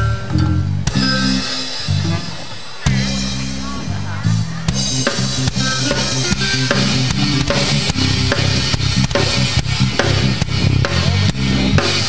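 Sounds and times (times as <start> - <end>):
bass line: 0.0 - 12.0
drum kit beat: 0.0 - 12.0
upbeat band music: 0.0 - 12.0.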